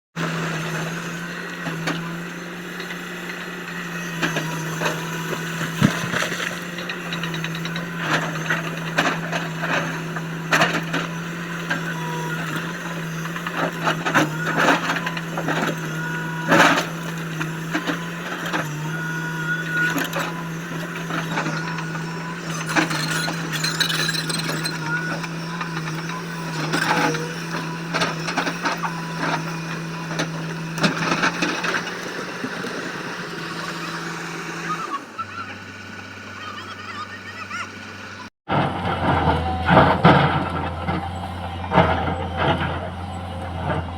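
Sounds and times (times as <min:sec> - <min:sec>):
excavator diesel engine humming: 0:00.2 - 0:43.9.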